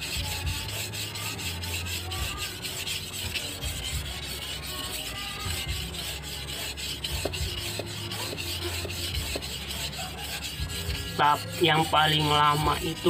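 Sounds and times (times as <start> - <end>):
blade scraping on whetstone: 0.0 - 13.0.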